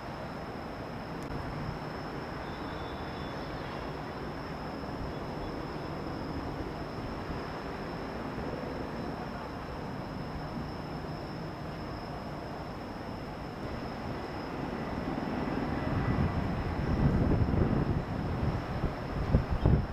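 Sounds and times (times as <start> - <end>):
distant city and harbour hum: 0.0 - 19.9
thin high whine: 0.0 - 19.9.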